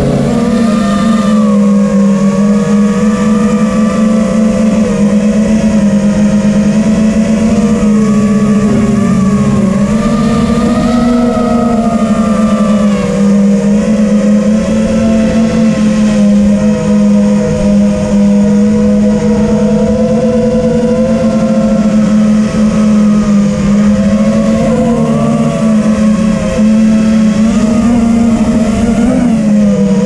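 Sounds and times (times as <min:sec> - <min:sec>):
quadcopter propellers whining: 0:00.0 - 0:30.0.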